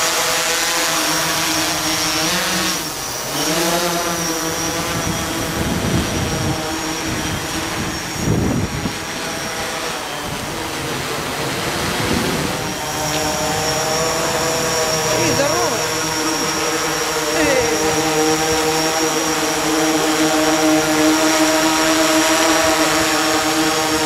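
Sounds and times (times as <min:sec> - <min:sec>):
drone propellers buzzing: 0:00.0 - 0:24.0
high motor whine: 0:00.0 - 0:24.0.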